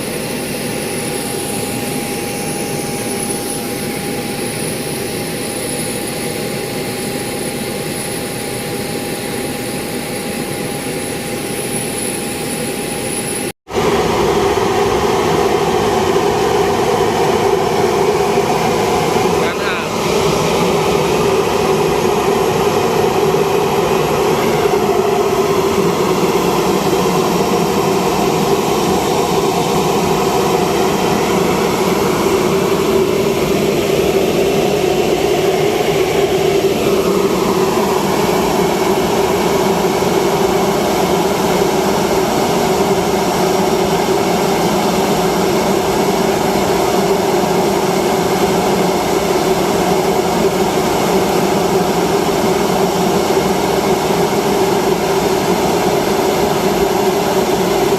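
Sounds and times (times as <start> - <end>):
airliner engine idling drone: 0.0 - 57.9.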